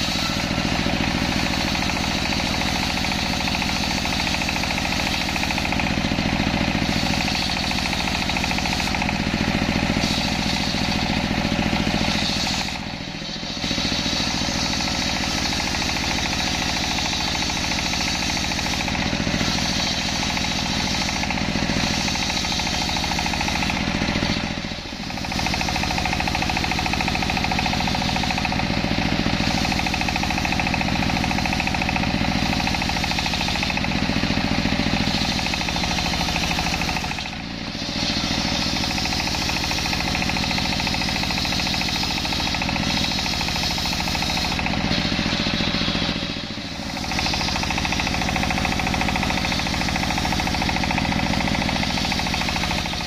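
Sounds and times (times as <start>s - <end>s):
table saw cutting log: 0.0s - 53.0s.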